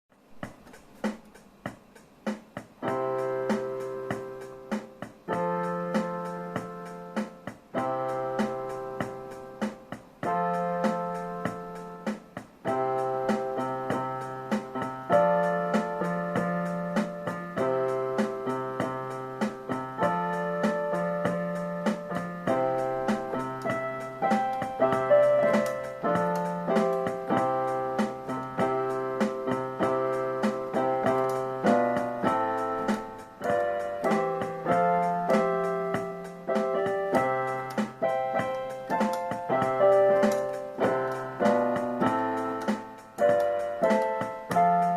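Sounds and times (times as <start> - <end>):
piano chords and melody: 0.1 - 44.9.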